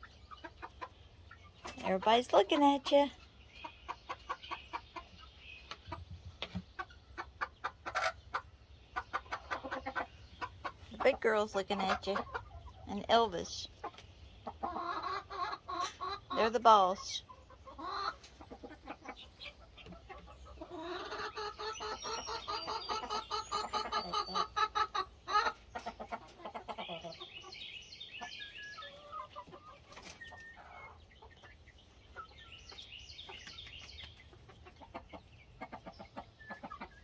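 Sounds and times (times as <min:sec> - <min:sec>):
chickens clucking: 0:00.0 - 0:37.0
chicks peeping: 0:00.0 - 0:37.0.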